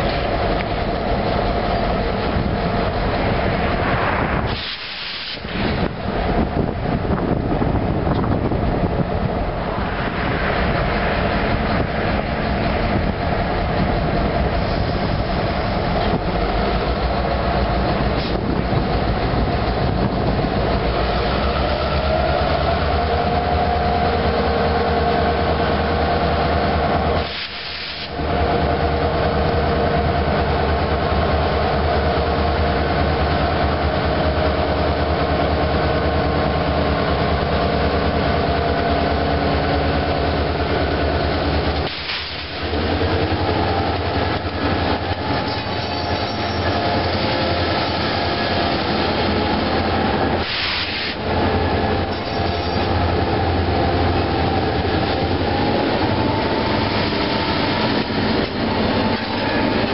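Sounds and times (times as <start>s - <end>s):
diesel locomotive engine drone: 0.0s - 59.9s
train wheels rumbling on rails: 0.0s - 59.9s.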